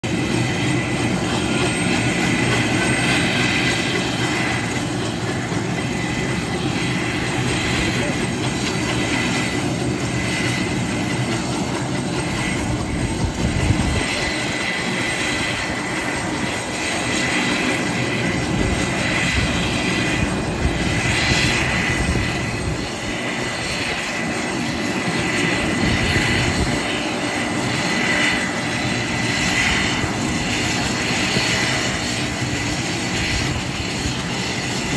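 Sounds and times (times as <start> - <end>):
constant rushing noise: 0.0 - 34.9
high turbine whine: 0.0 - 34.9.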